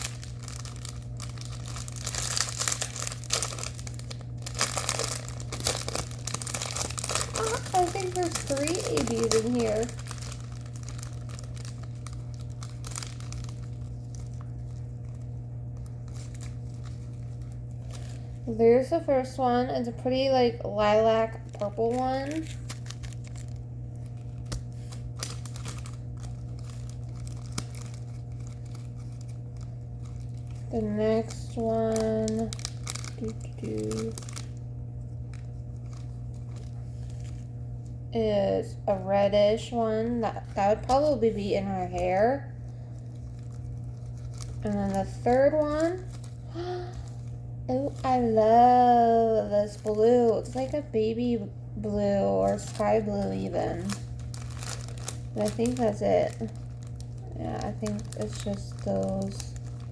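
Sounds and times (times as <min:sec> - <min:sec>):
plastic bags crinkling: 0:00.0 - 0:18.6, 0:20.8 - 0:38.1, 0:38.9 - 0:59.9
steady low hum: 0:00.0 - 0:59.9.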